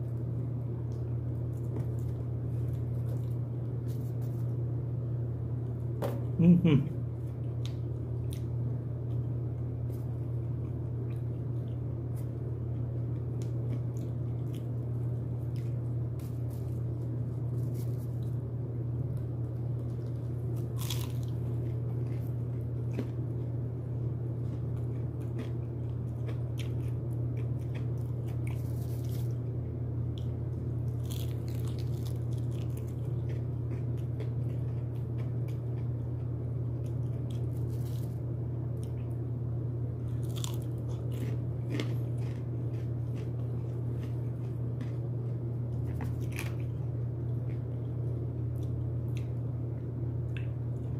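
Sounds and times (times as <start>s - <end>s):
person crunching and chewing chicken: 0.0s - 4.8s, 6.4s - 50.9s
steady low hum: 0.0s - 50.9s.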